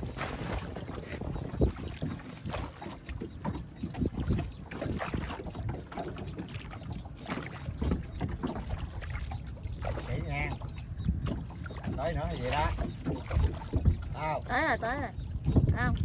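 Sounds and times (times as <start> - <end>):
water splashing and sloshing: 0.0 - 16.0
wind buffeting microphone: 0.0 - 16.0.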